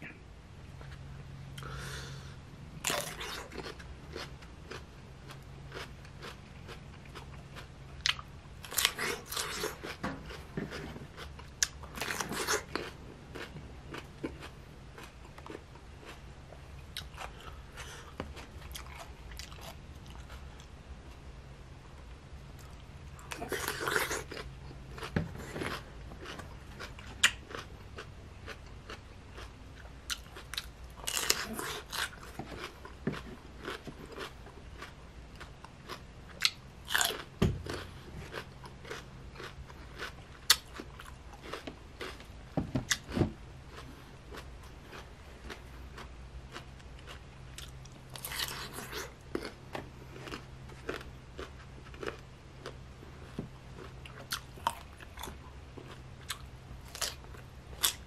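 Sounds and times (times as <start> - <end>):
faint low hum: 0.0 - 58.0
crunchy wet chewing: 2.8 - 20.8, 22.6 - 58.0.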